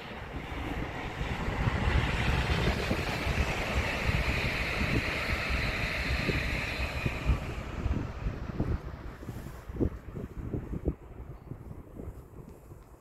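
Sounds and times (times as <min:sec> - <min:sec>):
electric train passing: 0:00.0 - 0:11.8.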